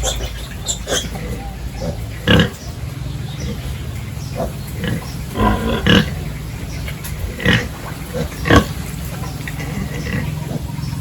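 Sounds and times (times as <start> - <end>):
pigs grunting and squealing: 0.0 - 11.0.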